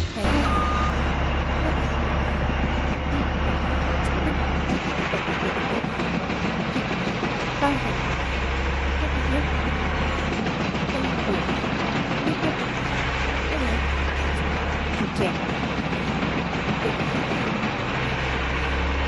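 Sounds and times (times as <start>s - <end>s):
heavy logging machinery running: 0.0s - 19.0s.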